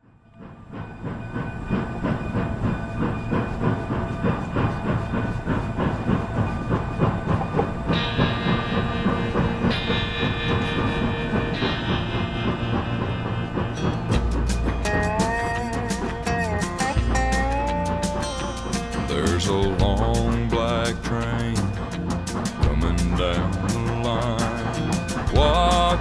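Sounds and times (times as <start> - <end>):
train cars clattering on rails: 0.1 - 26.0.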